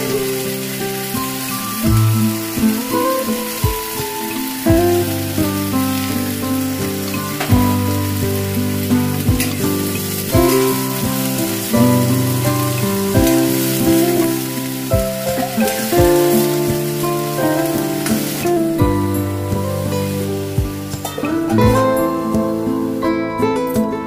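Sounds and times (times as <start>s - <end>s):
food sizzling in a wok: 0.0s - 23.1s
instrumental music: 0.0s - 24.0s.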